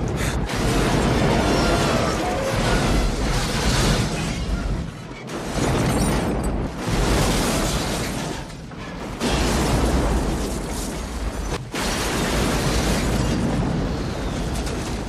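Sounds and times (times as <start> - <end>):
deep explosion rumble with debris: 0.0 - 15.0
explosion blasts: 0.0 - 15.0.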